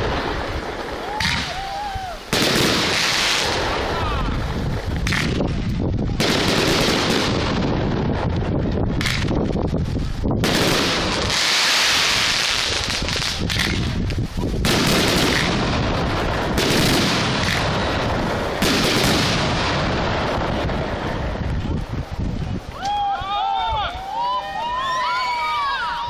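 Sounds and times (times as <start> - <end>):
fireworks bursting: 0.0 - 23.1.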